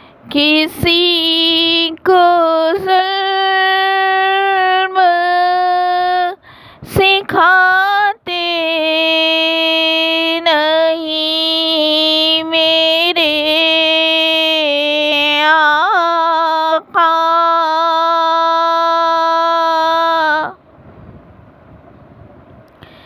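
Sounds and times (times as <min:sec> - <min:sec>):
person singing unaccompanied: 0:00.2 - 0:20.6.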